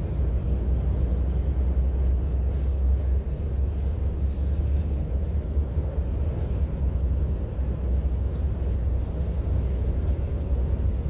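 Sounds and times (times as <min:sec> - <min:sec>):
diesel locomotives rumbling: 0:00.0 - 0:11.0.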